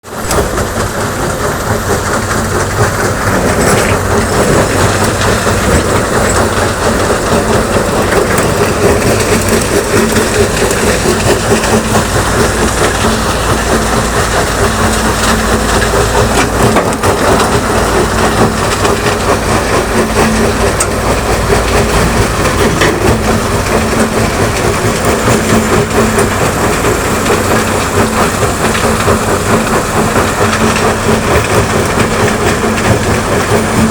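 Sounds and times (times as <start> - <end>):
diesel engine running: 0.0 - 33.9
rocks being dumped: 2.2 - 33.9.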